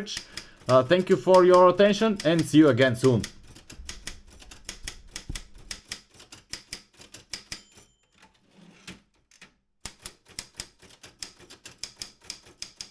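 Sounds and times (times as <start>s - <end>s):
typewriter key strikes: 0.0s - 7.9s, 9.9s - 12.9s.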